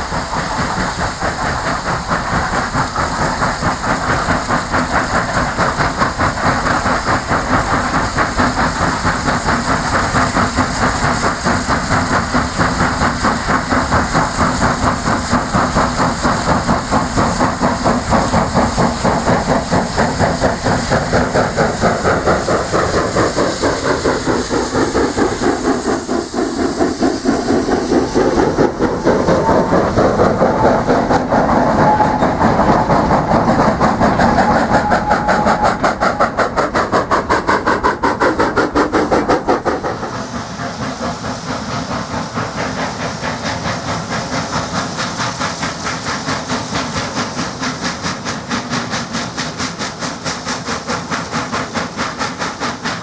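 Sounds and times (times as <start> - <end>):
steam hissing: 0.0 - 53.0
steam locomotive exhaust beats: 0.0 - 53.0.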